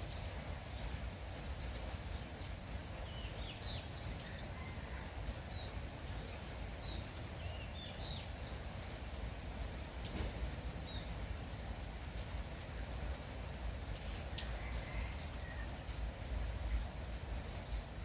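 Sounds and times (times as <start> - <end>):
light drizzle pattering: 0.0 - 18.0.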